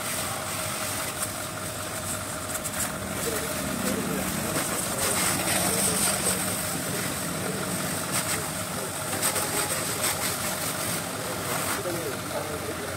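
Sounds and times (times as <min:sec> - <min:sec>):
pressure washer water spray hissing: 0:00.0 - 0:12.8
pressure washer motor running: 0:00.0 - 0:12.9.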